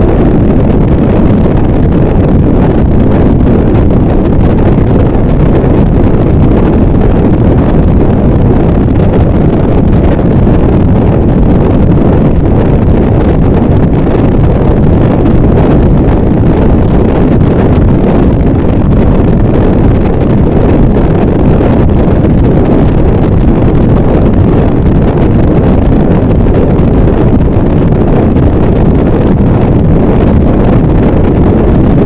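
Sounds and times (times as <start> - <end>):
dense distorted noise wall: 0.0 - 32.0.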